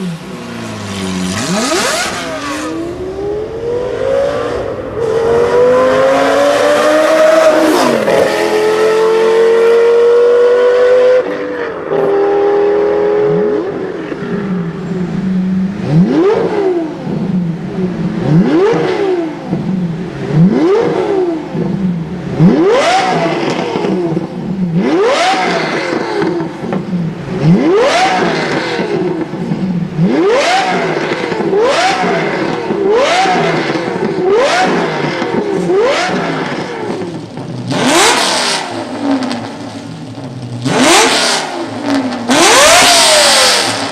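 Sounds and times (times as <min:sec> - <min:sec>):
sports car engine revving: 0:00.0 - 0:43.9.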